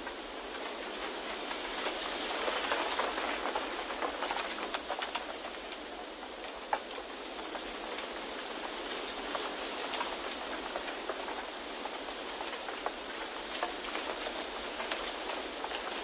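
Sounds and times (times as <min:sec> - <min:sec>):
light ticks and patter: 0:00.0 - 0:16.0.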